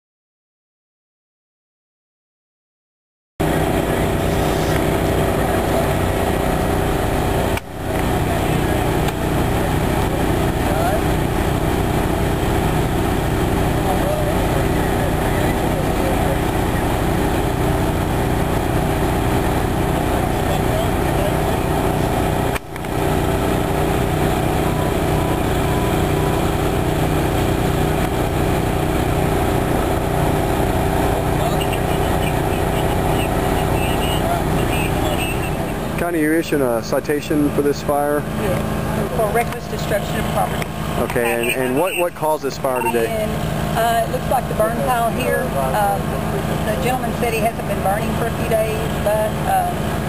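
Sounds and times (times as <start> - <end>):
fire engine motor running: 3.4 - 50.0.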